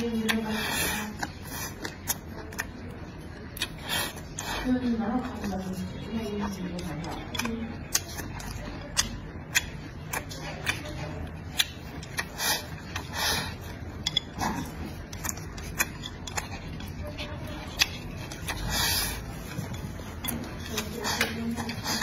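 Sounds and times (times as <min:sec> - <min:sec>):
man chewing with lip smacks: 0:00.0 - 0:04.6, 0:06.7 - 0:22.0
slurping: 0:00.0 - 0:22.0.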